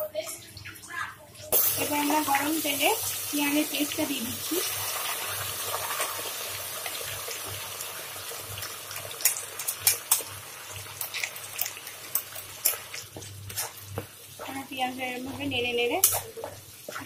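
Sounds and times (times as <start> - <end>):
paste sizzling in hot oil: 1.5 - 17.0.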